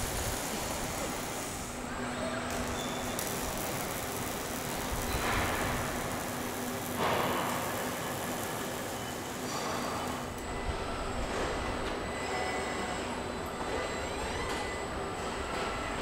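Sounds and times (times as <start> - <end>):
steady machine hum: 0.0 - 14.2.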